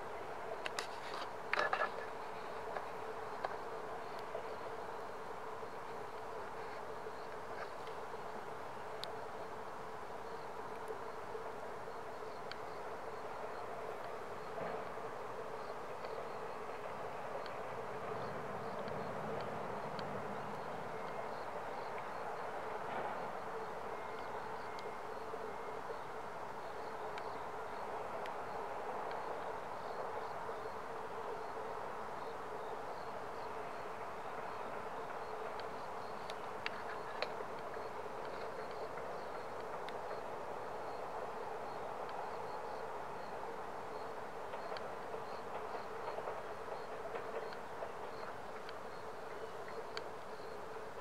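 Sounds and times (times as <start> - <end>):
insects humming: 0.0 - 51.0.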